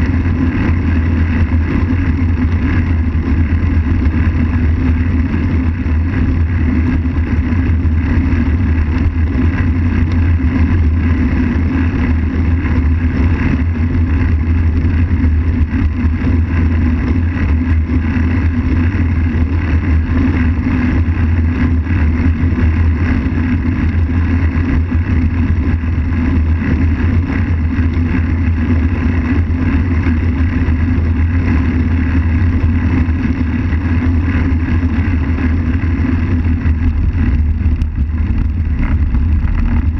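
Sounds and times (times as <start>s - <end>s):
tyre noise on asphalt: 0.0s - 39.9s
wind buffeting microphone: 0.0s - 39.9s.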